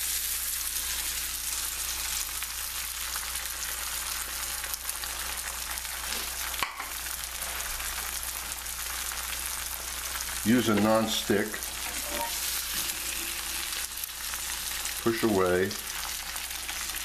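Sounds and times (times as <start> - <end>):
eggs sizzling in a pan: 0.0 - 17.0.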